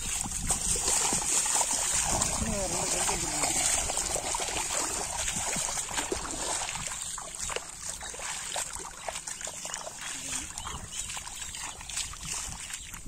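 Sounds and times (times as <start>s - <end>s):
bare feet splashing through water: 0.0s - 13.0s.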